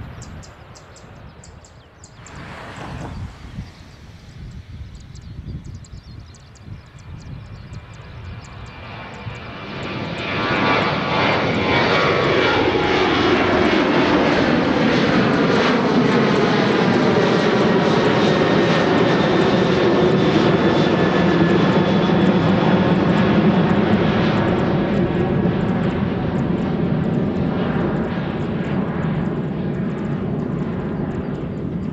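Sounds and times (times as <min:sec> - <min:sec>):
jet engine roar: 0:00.0 - 0:31.9.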